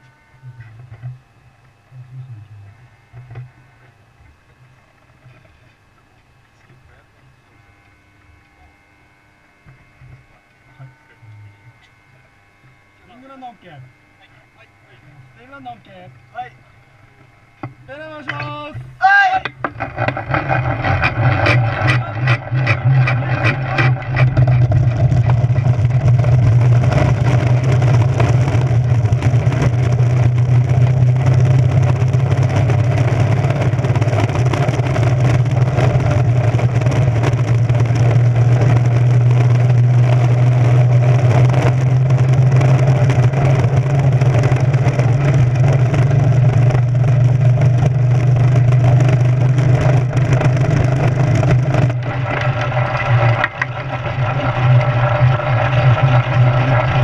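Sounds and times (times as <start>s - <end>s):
loud drone: 0.0s - 1.1s, 9.3s - 57.0s.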